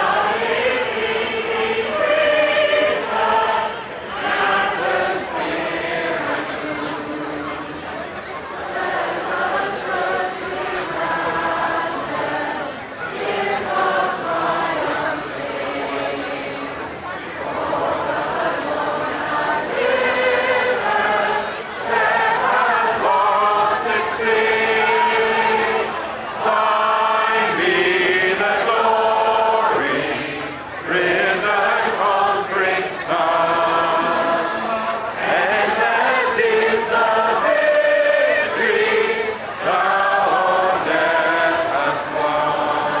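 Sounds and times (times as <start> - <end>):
crowd singing a hymn: 0.0 - 43.0.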